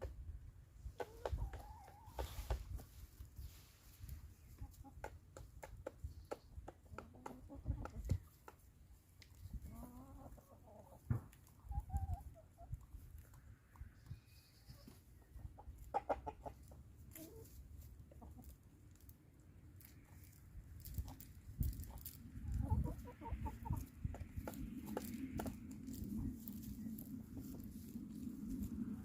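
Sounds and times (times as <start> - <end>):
chickens clucking: 0.8 - 29.0.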